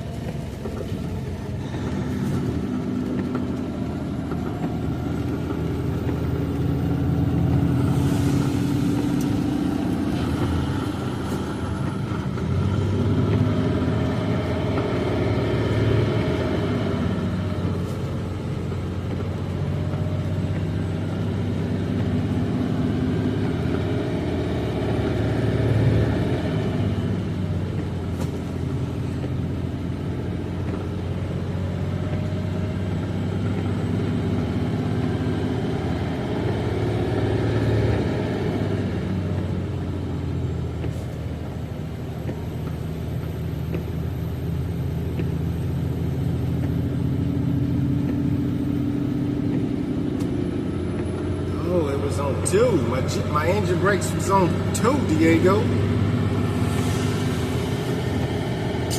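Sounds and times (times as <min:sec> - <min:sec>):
truck diesel engine braking: 0:00.0 - 0:58.9.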